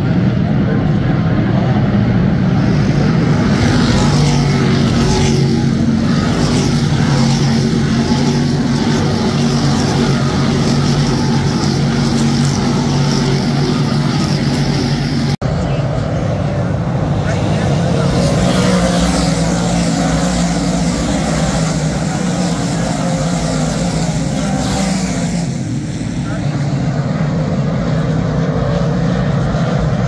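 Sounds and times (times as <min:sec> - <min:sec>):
race car engines roaring: 0:00.0 - 0:30.0.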